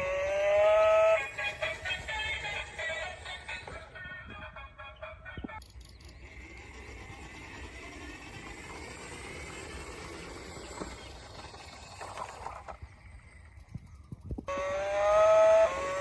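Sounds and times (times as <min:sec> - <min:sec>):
small motor whining: 0:00.0 - 0:04.1, 0:05.5 - 0:16.0.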